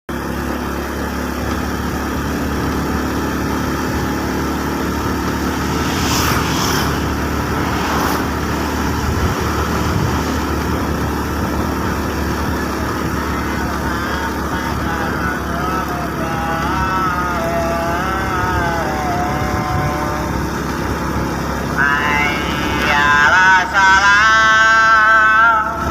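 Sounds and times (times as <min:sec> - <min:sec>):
road noise: 0:00.1 - 0:25.9
vehicle engine running: 0:00.1 - 0:25.9.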